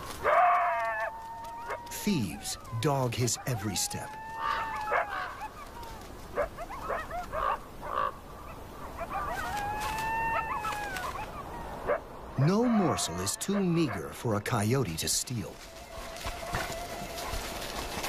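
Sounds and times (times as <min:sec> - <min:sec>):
coyotes howling: 0:00.0 - 0:14.2, 0:15.6 - 0:18.0
coyotes yipping: 0:00.0 - 0:14.4, 0:15.0 - 0:18.0.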